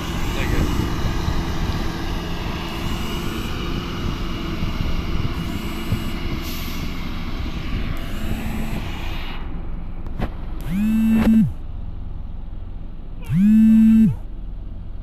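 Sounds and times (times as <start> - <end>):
road roller diesel engine running: 0.0 - 15.0.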